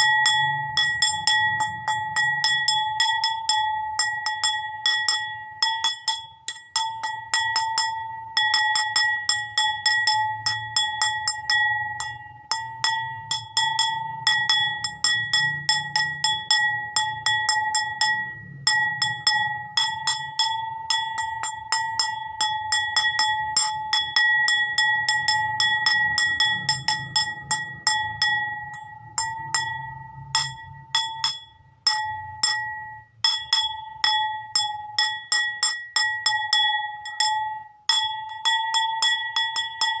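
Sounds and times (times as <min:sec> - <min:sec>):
bowl struck ringing: 0:00.0 - 0:40.0.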